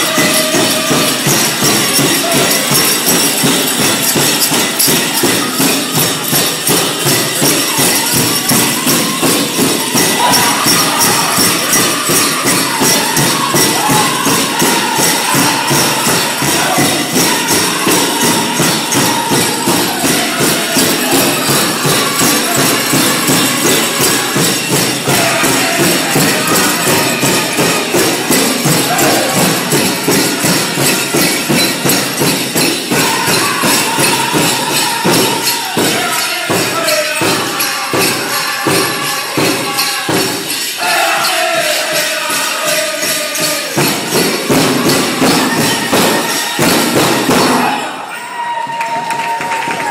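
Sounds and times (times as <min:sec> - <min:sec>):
fast steady drumbeat: 0:00.0 - 0:48.1
drum group singing: 0:00.0 - 0:49.9
jingling dancers' bells: 0:00.0 - 0:49.9.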